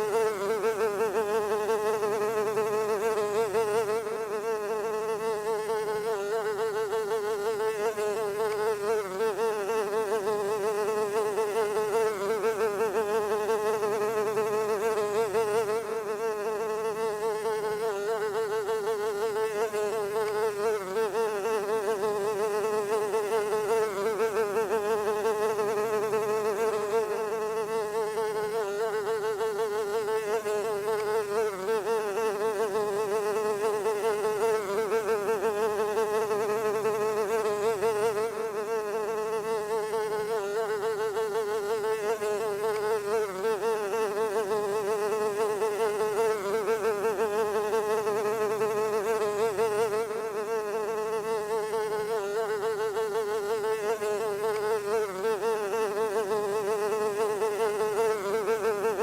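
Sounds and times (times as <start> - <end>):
fly buzzing: 0.0 - 59.0.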